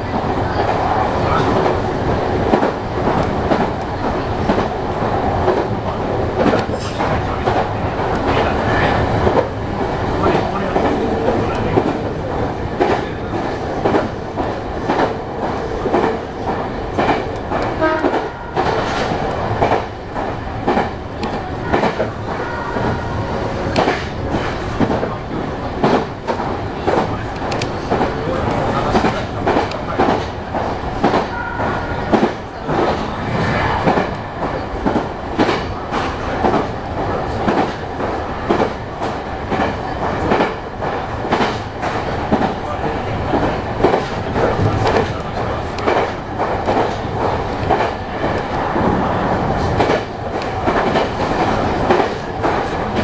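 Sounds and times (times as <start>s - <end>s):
train running noise: 0.0s - 53.0s.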